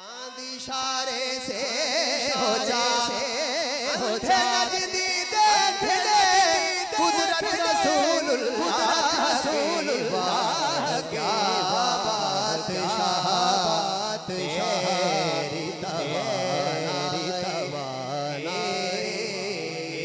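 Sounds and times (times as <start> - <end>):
man singing through microphone: 0.0 - 20.0.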